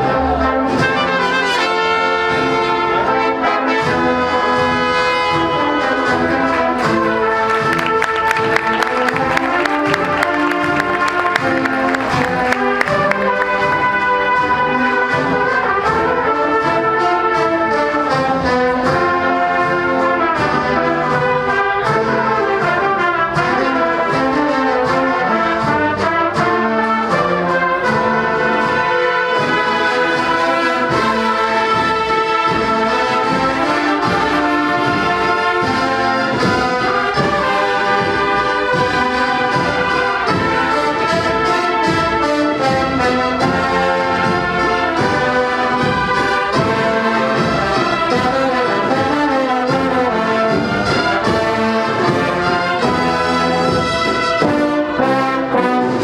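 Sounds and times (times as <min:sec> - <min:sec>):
brass marching band: 0:00.0 - 0:56.0.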